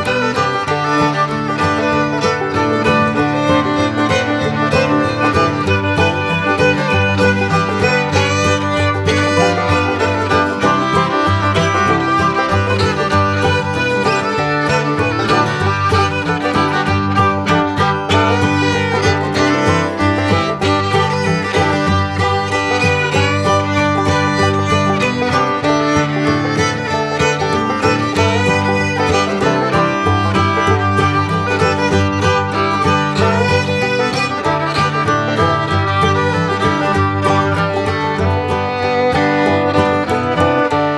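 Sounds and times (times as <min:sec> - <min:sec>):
instrumental background music: 0:00.0 - 0:40.9.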